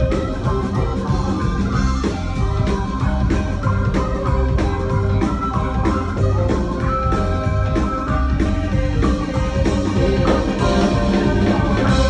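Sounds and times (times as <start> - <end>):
keyboard solo: 0.0 - 12.0
live rock band playing: 0.0 - 12.0.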